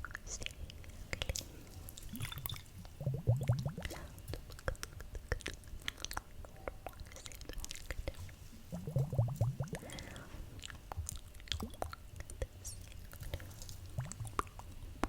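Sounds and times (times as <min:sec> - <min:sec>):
wet tongue clicks and lip smacks: 0:00.0 - 0:14.8.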